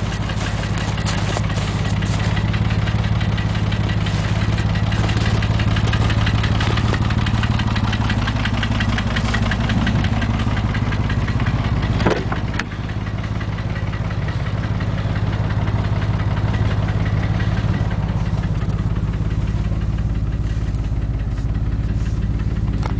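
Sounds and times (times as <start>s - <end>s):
car engine idling with knocking: 0.0s - 22.9s.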